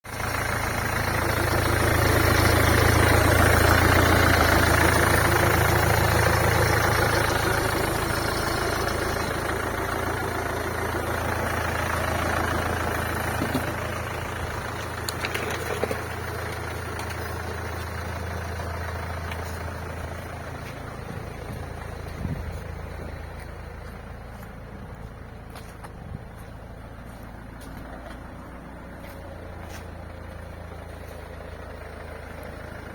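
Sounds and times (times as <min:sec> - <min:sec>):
car engine idling with knock: 0:00.1 - 0:32.9.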